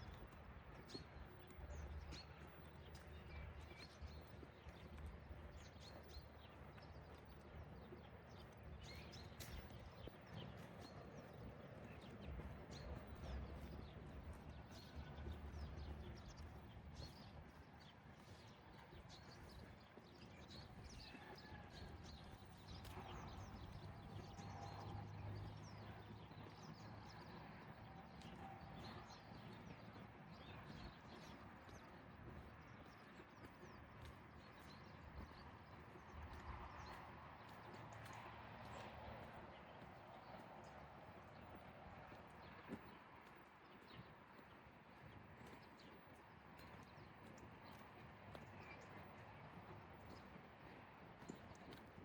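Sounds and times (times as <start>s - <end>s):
low city rumble: 0.0s - 52.0s.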